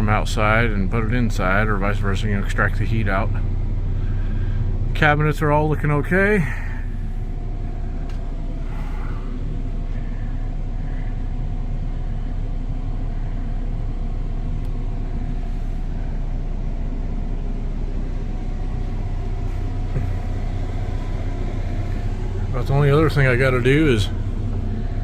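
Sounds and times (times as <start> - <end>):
blower motor humming: 0.0 - 25.0.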